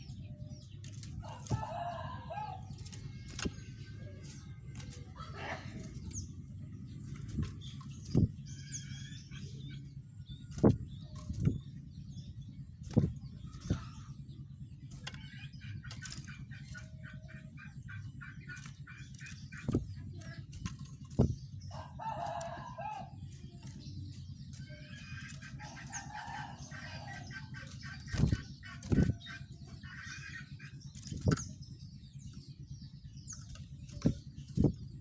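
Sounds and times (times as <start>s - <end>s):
bird chirping and trilling: 0.0s - 35.0s
steady low hum: 0.0s - 35.0s.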